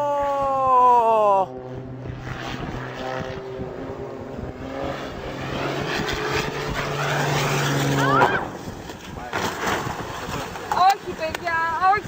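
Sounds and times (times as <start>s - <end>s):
aircraft engine hum: 0.0s - 12.0s
rough rushing noise: 0.0s - 12.0s.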